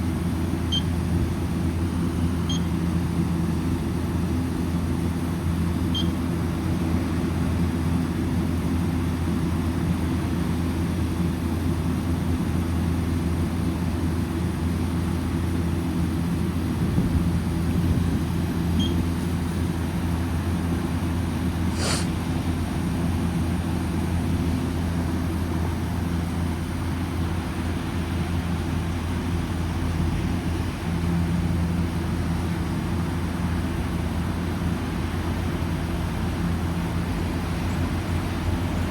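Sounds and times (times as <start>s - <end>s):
chiller machine hum: 0.0s - 38.9s
fan noise: 0.0s - 38.9s.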